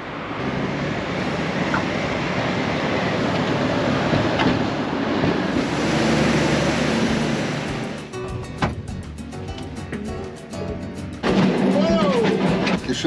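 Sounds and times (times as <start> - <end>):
vehicle rumble and hiss: 0.0 - 13.0.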